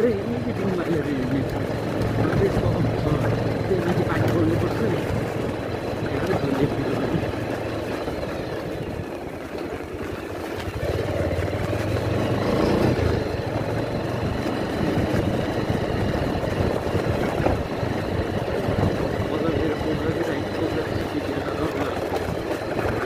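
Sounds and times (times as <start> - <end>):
motorbike engine running: 0.0 - 23.0
wind buffeting microphone: 0.0 - 23.0.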